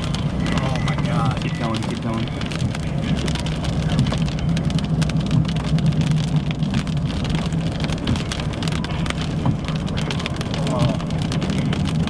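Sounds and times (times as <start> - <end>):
engine and tyre hum: 0.0 - 12.0
rain tapping on car roof: 0.0 - 12.0.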